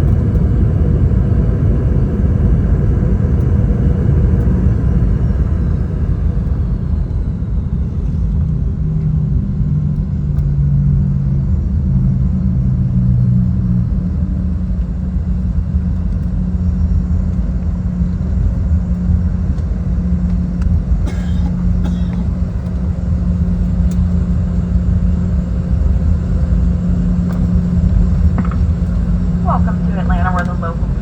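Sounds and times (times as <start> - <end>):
jet engines humming: 0.0 - 11.8, 13.6 - 31.0
aircraft cabin rumble: 0.0 - 31.0.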